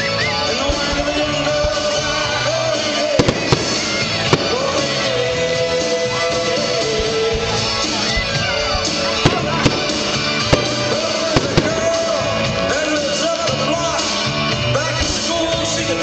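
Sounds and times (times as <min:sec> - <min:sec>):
loud rock music with singing: 0:00.0 - 0:16.0
fireworks bangs: 0:00.3 - 0:14.3.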